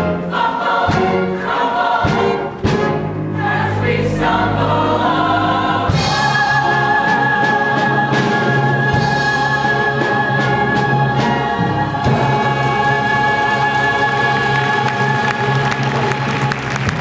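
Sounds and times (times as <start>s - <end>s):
instrumental accompaniment: 0.0s - 17.0s
cast singing together: 0.2s - 16.0s.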